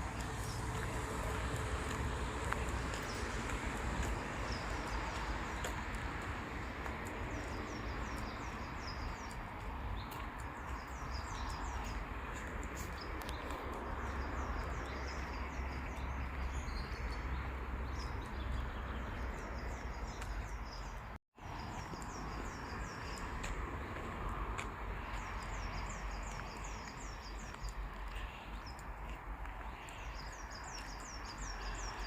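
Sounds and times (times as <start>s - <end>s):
small songbirds chirping: 0.0s - 32.0s.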